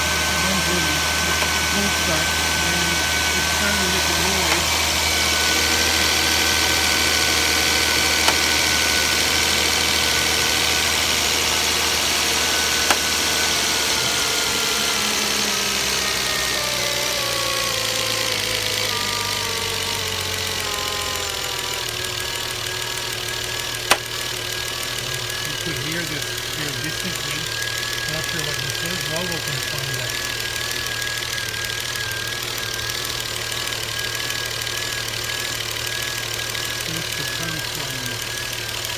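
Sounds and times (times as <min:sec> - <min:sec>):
car engine idling: 0:00.0 - 0:38.9
sharp engine clicks: 0:00.0 - 0:38.9.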